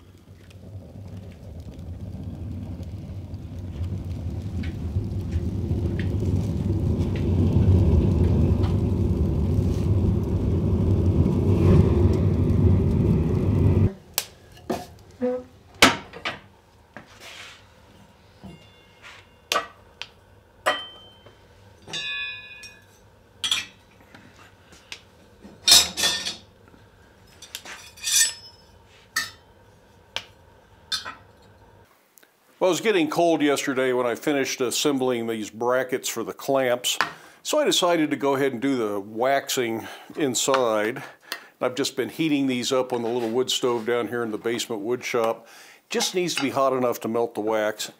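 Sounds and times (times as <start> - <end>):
wood stove fire rumbling: 0.0 - 31.9, 32.6 - 47.9.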